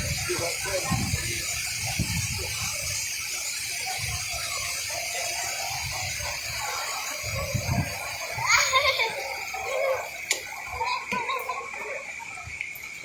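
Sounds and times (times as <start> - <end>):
faint indistinct voices: 0.0 - 13.0
steady hiss: 0.0 - 13.0.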